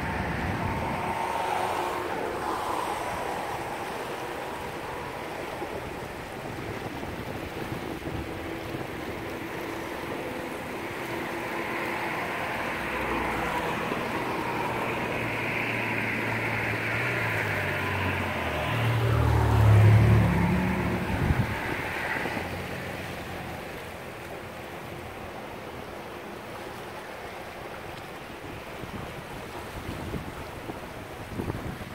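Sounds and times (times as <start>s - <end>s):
wind on microphone: 0.0s - 25.4s, 28.0s - 31.9s
vehicle passing with engine hum: 0.0s - 27.8s
river rushing: 0.0s - 31.9s
traffic on a bridge: 0.0s - 31.9s.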